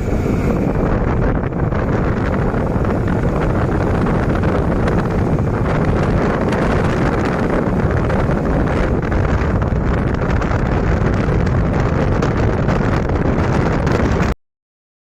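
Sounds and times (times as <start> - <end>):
scooter engine running: 0.0 - 14.3
wind buffeting microphone: 0.0 - 14.4.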